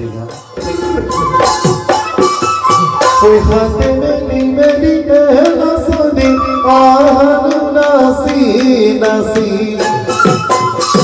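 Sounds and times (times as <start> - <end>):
busy steady percussion: 0.0 - 11.0.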